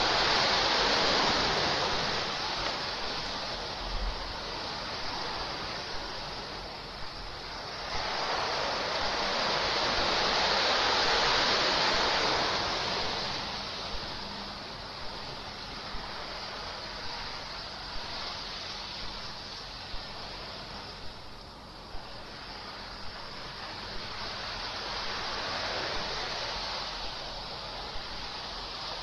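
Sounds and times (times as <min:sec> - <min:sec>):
waves breaking on rocky shore: 0:00.0 - 0:29.0.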